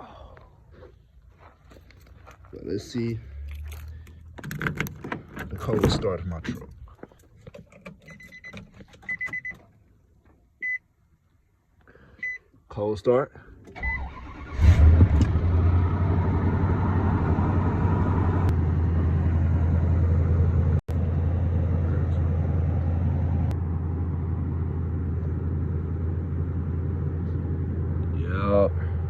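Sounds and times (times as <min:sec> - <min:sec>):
pickup engine cranking and idling: 0:01.3 - 0:10.2, 0:13.5 - 0:29.0.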